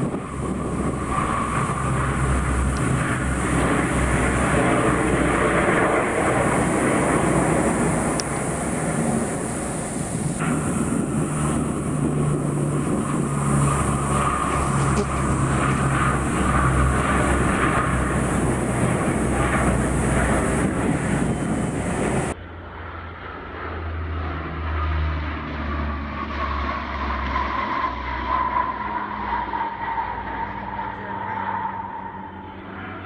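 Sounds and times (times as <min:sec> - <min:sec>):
aircraft engines droning: 0:00.0 - 0:33.0
turboprop aircraft engines droning: 0:00.0 - 0:33.0.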